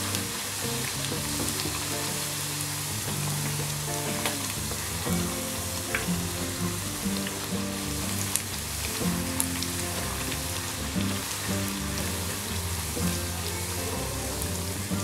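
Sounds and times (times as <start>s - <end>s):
dough deep-frying in oil: 0.0s - 15.0s.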